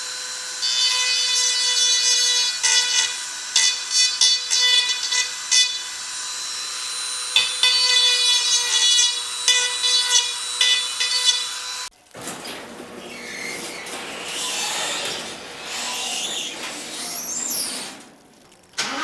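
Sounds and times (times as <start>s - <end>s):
rotary tool cutting metal: 0.0s - 18.2s.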